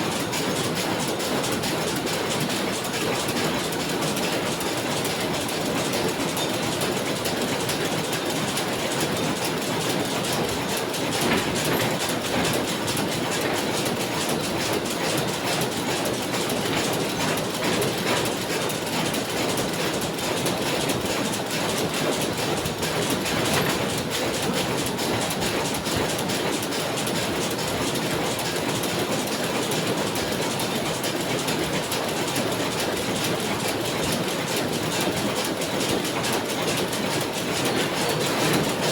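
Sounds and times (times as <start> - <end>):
machine clattering: 0.0 - 38.9.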